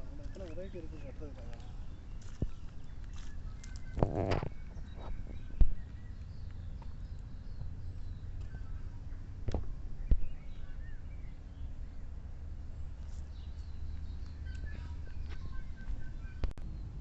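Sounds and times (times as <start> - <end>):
small birds chirping: 0.0 - 17.0
steady low rumble: 0.9 - 17.0.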